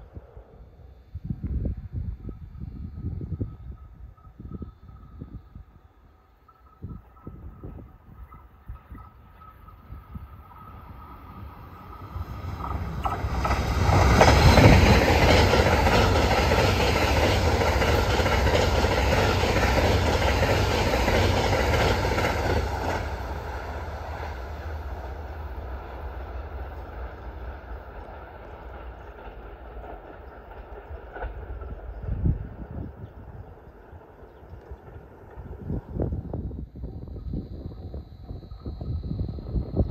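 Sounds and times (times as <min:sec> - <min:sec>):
train passing at high speed: 0:00.0 - 0:39.9.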